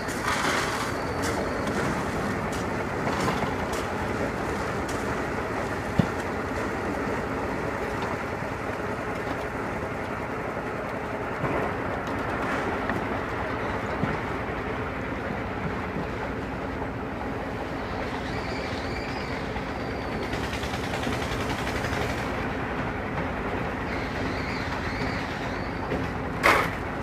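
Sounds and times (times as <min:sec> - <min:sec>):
construction machinery running: 0:00.0 - 0:27.0.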